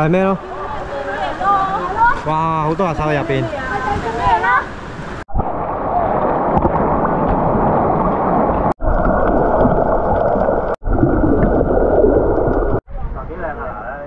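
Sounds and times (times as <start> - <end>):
sea water churning and sloshing: 0.4 - 12.8.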